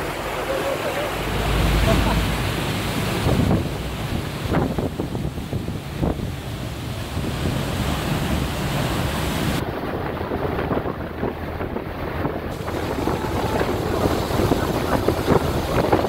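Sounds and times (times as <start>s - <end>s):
boat wake water churning: 0.0s - 16.0s
wind buffeting microphone: 1.1s - 16.0s.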